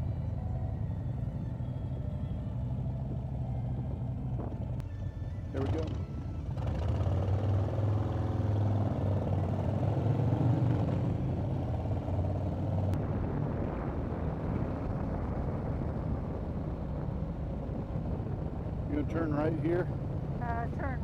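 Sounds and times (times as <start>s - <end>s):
motorcycle engine accelerating: 0.0s - 21.0s
wind and road noise: 0.0s - 21.0s.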